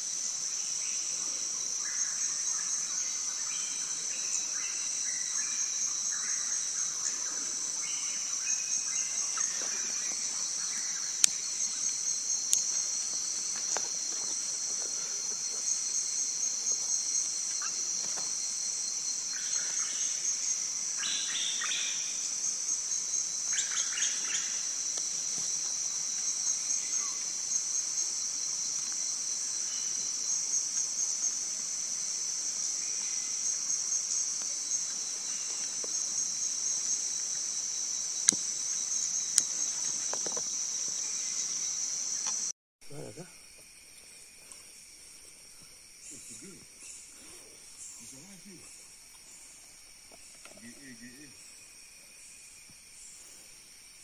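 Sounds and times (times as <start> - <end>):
insect chorus with pulsing trill: 0.0 - 54.0.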